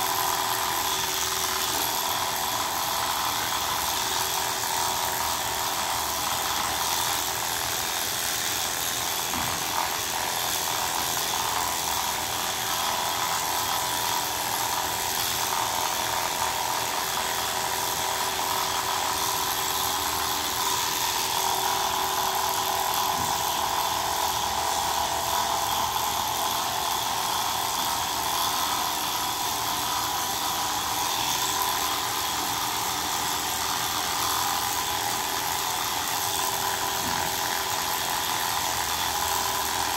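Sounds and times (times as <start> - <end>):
electric pet clippers buzzing: 0.0 - 39.9.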